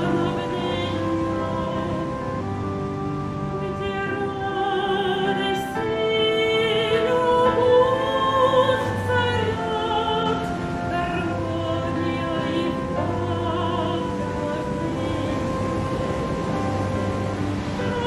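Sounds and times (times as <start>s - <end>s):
operatic singing: 0.0s - 18.0s
orchestral accompaniment: 0.0s - 18.0s.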